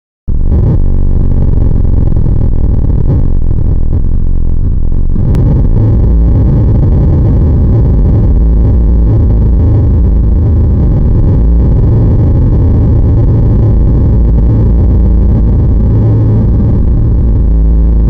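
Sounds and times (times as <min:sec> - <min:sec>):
loud low rumbling noise: 0:00.3 - 0:18.0.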